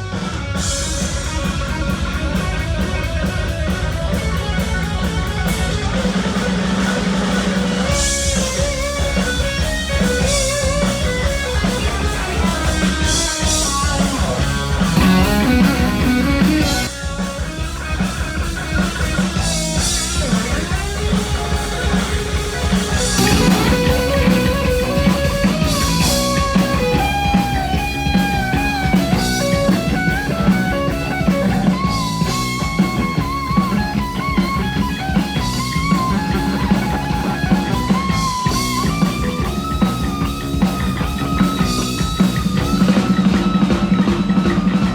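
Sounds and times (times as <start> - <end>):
heavy metal band playing live: 0.0 - 44.9.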